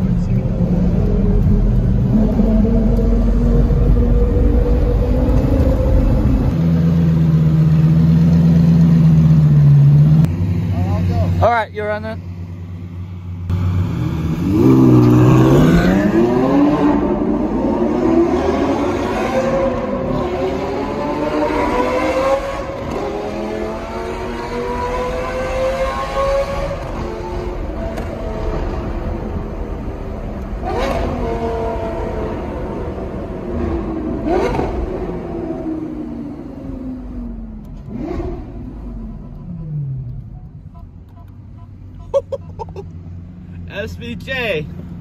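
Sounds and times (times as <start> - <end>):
car engine accelerating: 0.0 - 11.5, 12.2 - 40.6.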